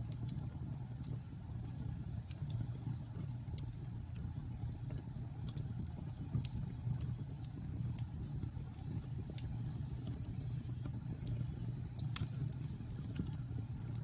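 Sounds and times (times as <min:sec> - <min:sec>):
burning wood crackling: 0:00.0 - 0:14.0
rumble of flames: 0:00.0 - 0:14.0.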